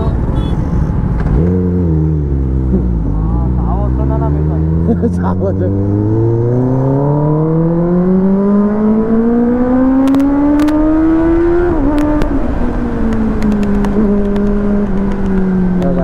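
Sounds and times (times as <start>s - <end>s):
motorcycle engine accelerating: 1.1s - 16.0s.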